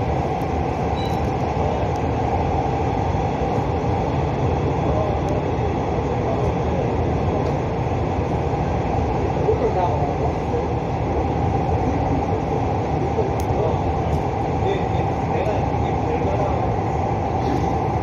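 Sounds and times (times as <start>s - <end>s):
subway train rumbling in tunnel: 0.0s - 18.0s.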